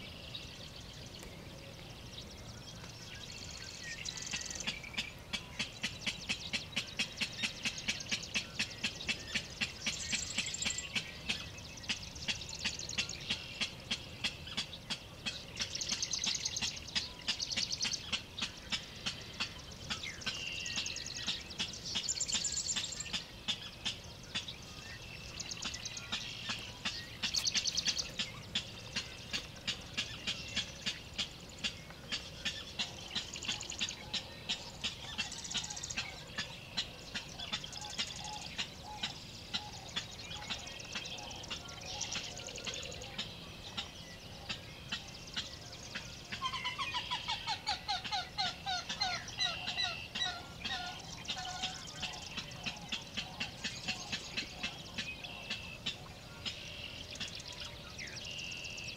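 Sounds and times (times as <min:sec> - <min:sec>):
lower repeated bird calls: 0:00.0 - 0:58.9
marsh birds singing: 0:00.0 - 0:58.9.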